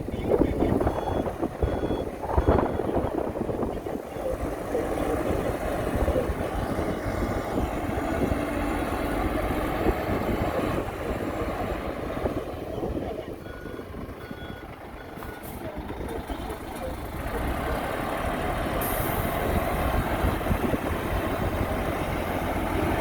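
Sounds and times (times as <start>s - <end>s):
heavy machinery engine rumbling: 0.0s - 23.0s.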